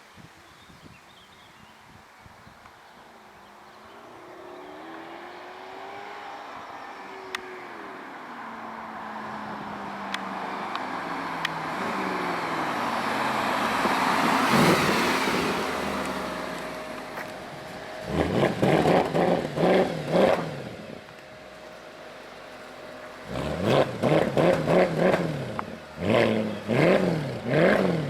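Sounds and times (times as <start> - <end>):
passing vehicle: 2.6 - 28.0
car engine idling: 2.8 - 28.0
car engine revving: 3.1 - 28.0.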